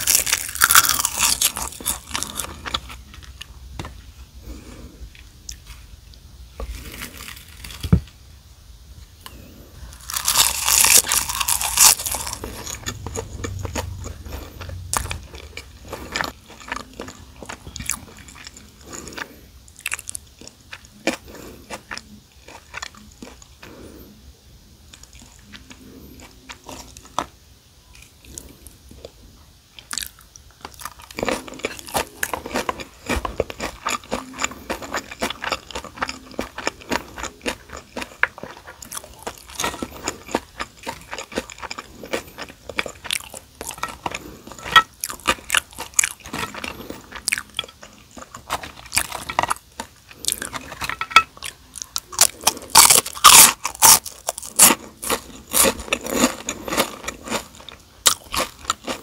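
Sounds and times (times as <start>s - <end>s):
chewing food: 0.0s - 3.5s, 9.2s - 24.1s, 24.9s - 27.3s, 29.8s - 59.0s
crisp crunching of chips: 0.0s - 3.5s, 6.6s - 8.0s, 9.3s - 23.6s, 29.8s - 59.0s.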